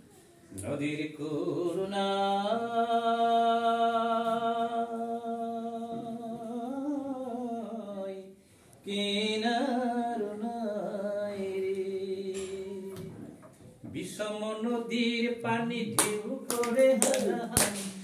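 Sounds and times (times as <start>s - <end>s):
man singing unaccompanied: 0.6s - 13.1s, 13.9s - 18.0s.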